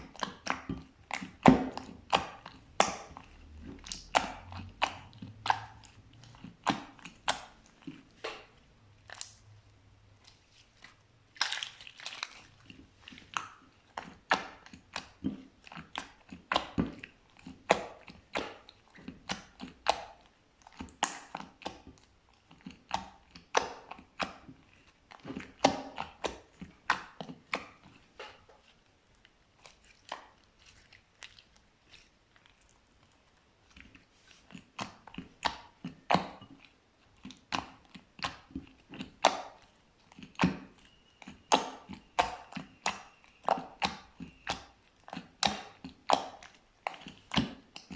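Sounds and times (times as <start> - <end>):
slime squishing with wet clicks: 0.0 - 47.9.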